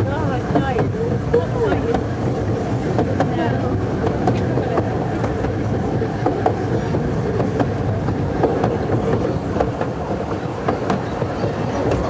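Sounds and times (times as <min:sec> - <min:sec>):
train wheels rumbling on rails: 0:00.0 - 0:12.0
wheels clicking over rail joints: 0:00.0 - 0:12.0.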